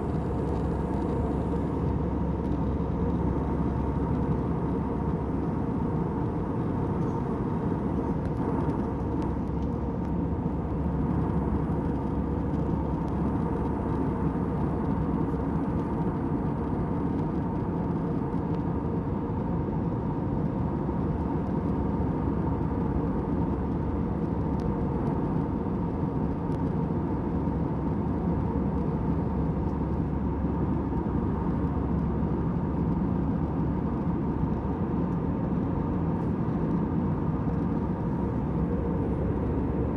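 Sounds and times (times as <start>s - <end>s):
airliner cabin engine rush: 0.0s - 39.9s
faint constant hum: 0.0s - 39.9s.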